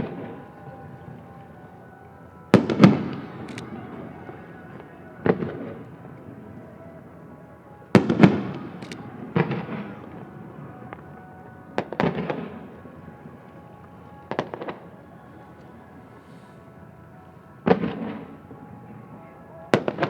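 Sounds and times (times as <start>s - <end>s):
faint music: 0.0s - 20.0s.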